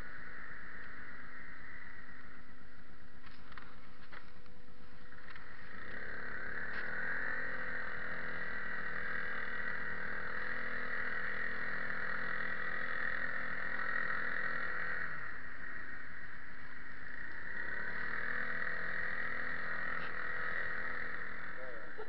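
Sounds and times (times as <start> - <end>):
motor spinning: 0.0 - 22.0.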